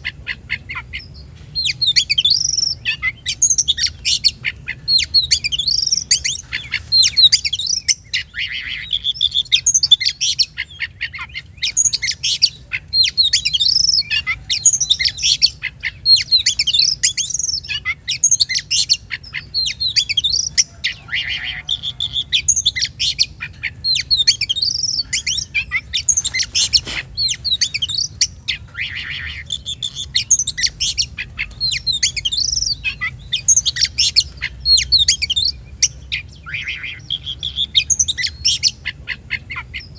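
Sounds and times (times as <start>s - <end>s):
bird singing whistles and chirps: 0.5s - 39.9s.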